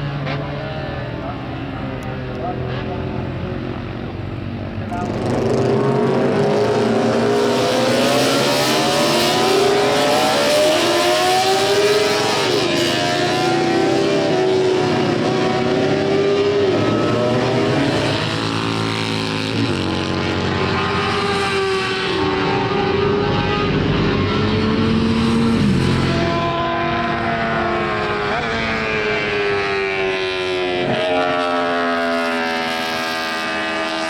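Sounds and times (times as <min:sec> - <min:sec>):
racing motorcycle engine revving: 0:00.0 - 0:34.0.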